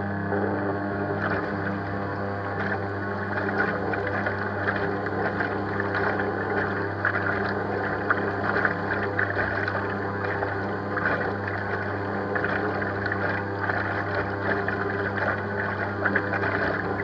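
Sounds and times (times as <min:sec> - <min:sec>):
electric motors humming: 0:00.0 - 0:17.0
water churning from propellers: 0:00.0 - 0:17.0.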